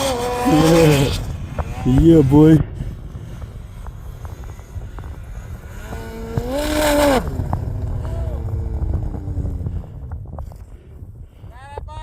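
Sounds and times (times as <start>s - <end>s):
snowmobile engine revving: 0.0s - 10.1s.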